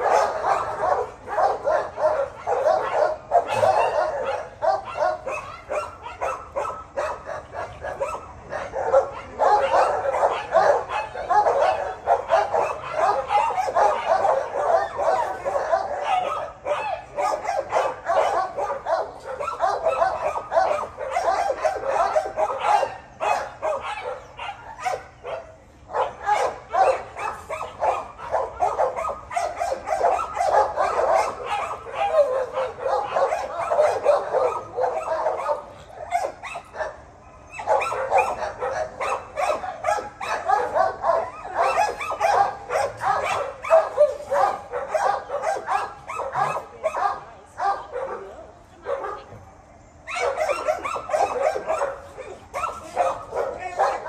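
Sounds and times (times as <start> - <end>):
dogs barking and yipping: 0.0 - 54.0.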